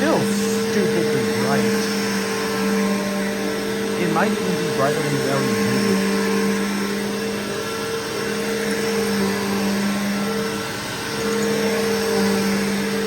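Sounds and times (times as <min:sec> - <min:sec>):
upright vacuum cleaner running: 0:00.0 - 0:13.0.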